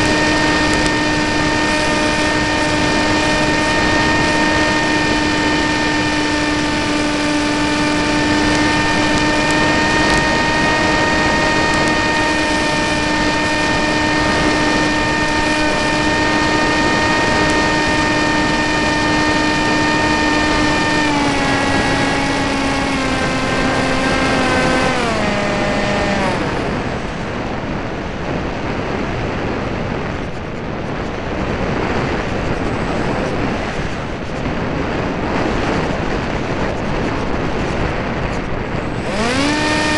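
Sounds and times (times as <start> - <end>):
model airplane motor droning: 0.0 - 27.8, 30.2 - 39.9
wind rush: 0.0 - 39.9.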